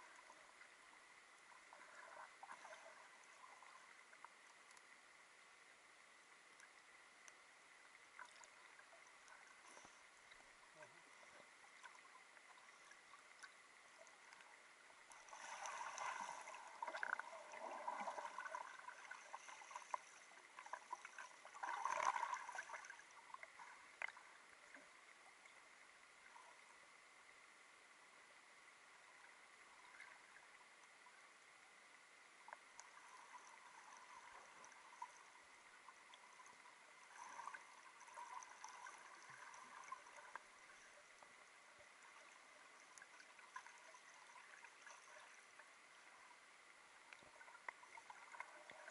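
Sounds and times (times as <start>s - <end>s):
muffled underwater swimming strokes: 0.0s - 27.5s, 28.6s - 48.9s.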